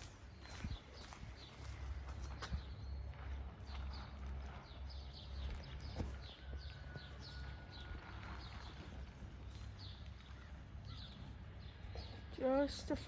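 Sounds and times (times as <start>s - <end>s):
distant tractor engine rumble: 0.0s - 13.0s
small birds chirping: 0.0s - 13.0s.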